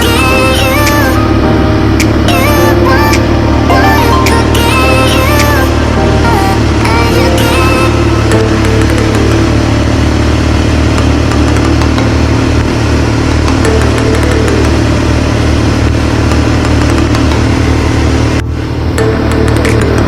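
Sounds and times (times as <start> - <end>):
atv engine running under load: 0.0 - 20.0.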